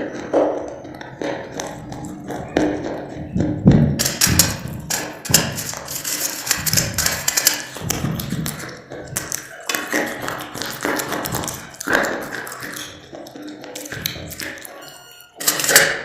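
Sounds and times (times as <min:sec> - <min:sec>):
biscuits crunching: 0:00.0 - 0:16.0.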